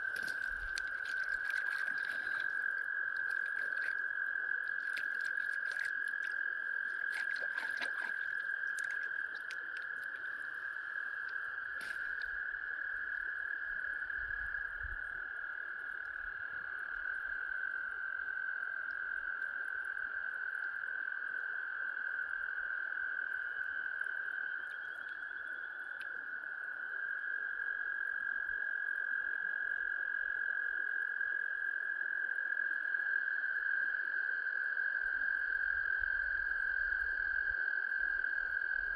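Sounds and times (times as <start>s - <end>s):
frogs trilling in chorus: 0.0s - 15.7s, 20.0s - 38.9s.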